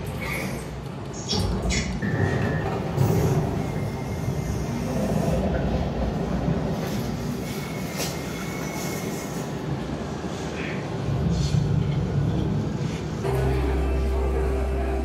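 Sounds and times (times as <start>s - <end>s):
low rumbling hall noise: 0.0s - 15.0s.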